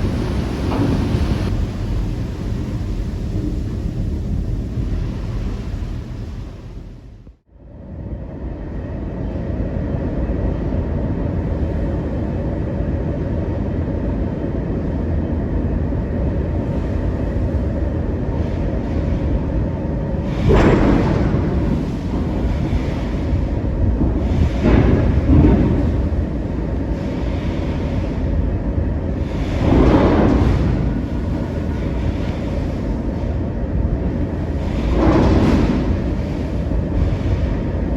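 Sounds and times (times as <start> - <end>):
ship engine rumble: 0.0 - 37.9
wind and sea rushing: 0.0 - 37.9.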